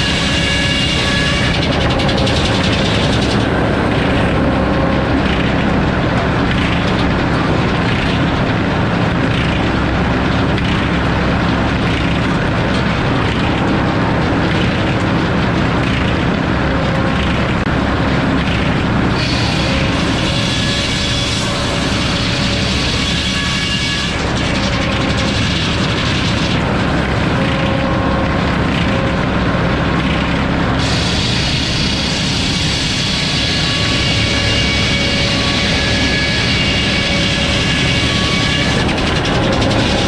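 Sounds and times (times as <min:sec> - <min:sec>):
saw cutting through log: 0:00.0 - 0:17.6, 0:18.4 - 0:40.0.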